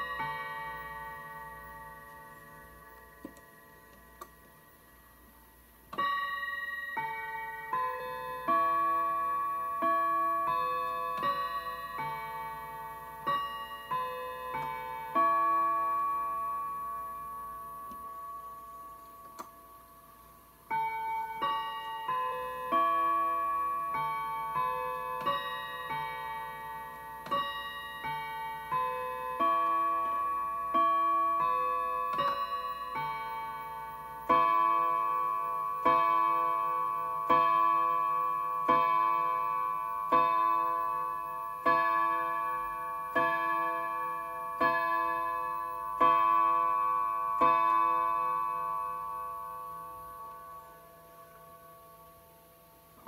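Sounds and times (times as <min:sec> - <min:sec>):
clock striking the hour: 0:00.0 - 0:19.7, 0:20.6 - 0:52.1
clock chime melody: 0:00.0 - 0:53.0.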